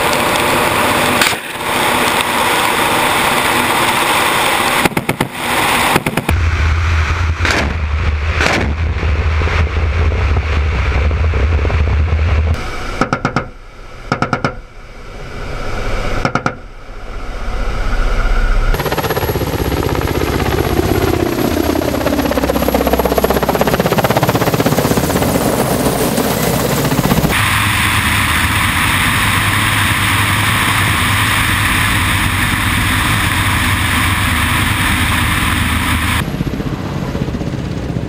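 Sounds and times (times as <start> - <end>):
helicopter engine and rotor noise: 0.0 - 7.5, 11.6 - 38.0
wind rush: 1.6 - 13.0, 14.8 - 38.0.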